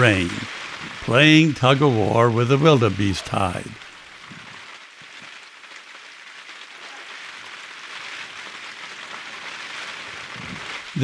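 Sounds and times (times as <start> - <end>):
heavy rain on standing water: 0.0 - 11.0.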